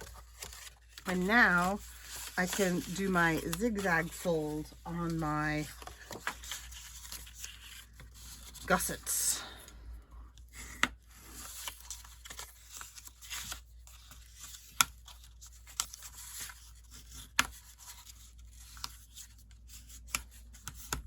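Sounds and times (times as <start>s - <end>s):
stiff paper rustling: 0.0s - 9.5s, 10.4s - 21.0s.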